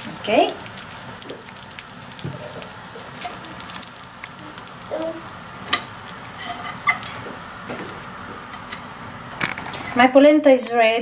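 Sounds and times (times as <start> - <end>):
food sizzling on grill pan: 0.0 - 10.0.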